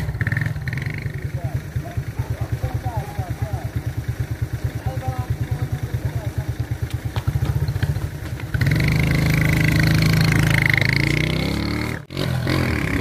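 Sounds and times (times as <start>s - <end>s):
engine whine: 0.0s - 13.0s
moped engine: 0.0s - 13.0s.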